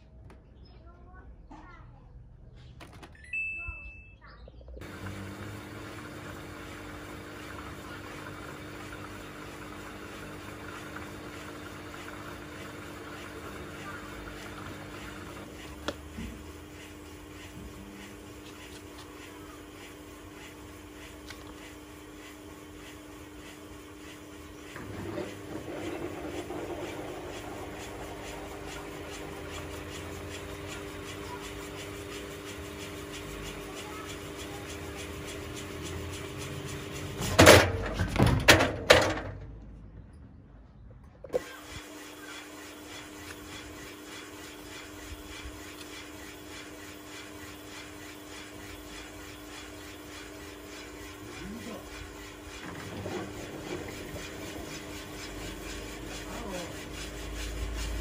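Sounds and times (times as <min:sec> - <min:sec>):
washing machine motor whine: 0:04.8 - 0:39.6, 0:41.2 - 0:58.0.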